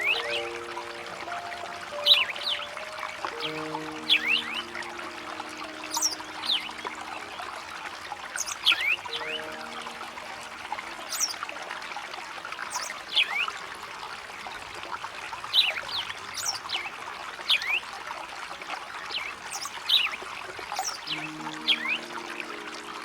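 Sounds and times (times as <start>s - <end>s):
water trickling: 0.0s - 23.0s.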